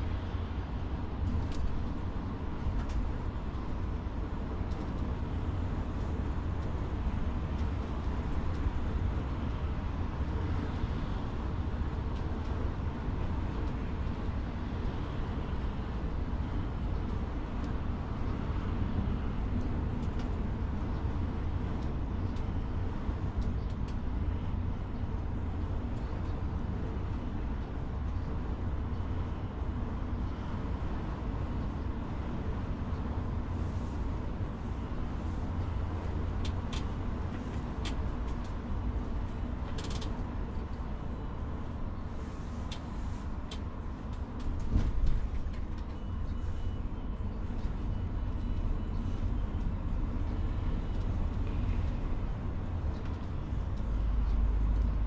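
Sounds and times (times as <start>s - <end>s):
coach engine and road rumble: 0.0s - 55.0s.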